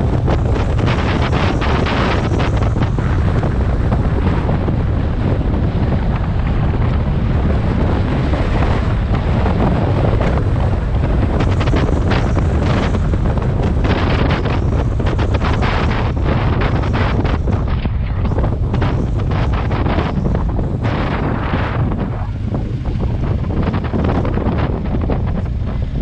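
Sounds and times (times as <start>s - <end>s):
motorcycle engine rumble: 0.0s - 26.0s
wind buffeting microphone: 0.0s - 26.0s.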